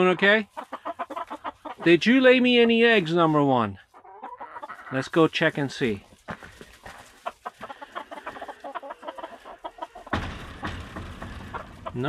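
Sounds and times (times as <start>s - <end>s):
chickens clucking: 0.0s - 12.0s
rustling of movement: 0.0s - 12.0s.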